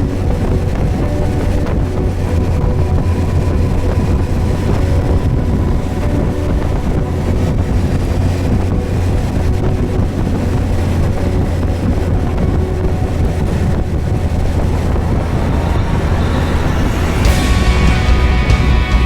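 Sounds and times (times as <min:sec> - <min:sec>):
wind rushing on microphone: 0:00.0 - 0:19.0.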